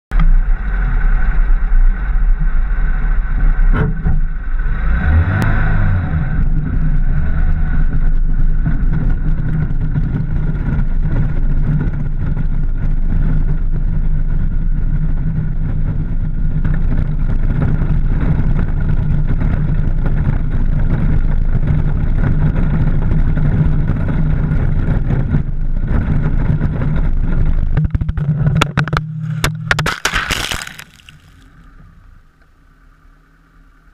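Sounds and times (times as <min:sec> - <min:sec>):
road rumble: 0:00.1 - 0:33.9
wind noise: 0:00.2 - 0:31.4.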